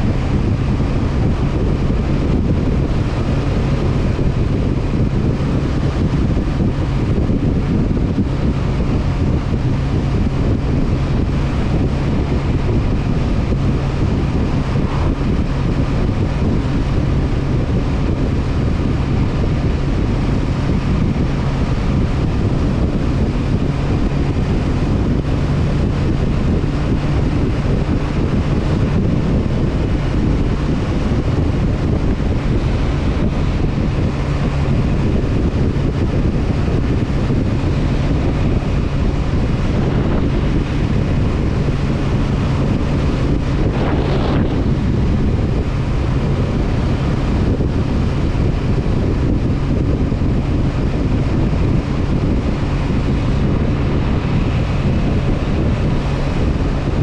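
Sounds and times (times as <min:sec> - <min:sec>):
motorcycle engine cruising: 0:00.0 - 0:57.0
wind rushing on microphone: 0:00.0 - 0:57.0.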